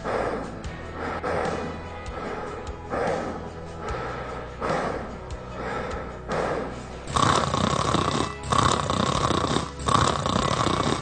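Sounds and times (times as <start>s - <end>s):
person snoring: 0.0s - 11.0s.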